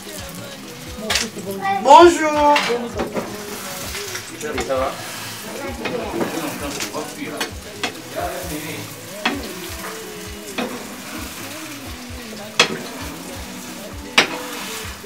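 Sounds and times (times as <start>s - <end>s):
egg sizzling in a frying pan: 0.0s - 15.0s
spoon knocking on pan: 2.0s - 14.9s.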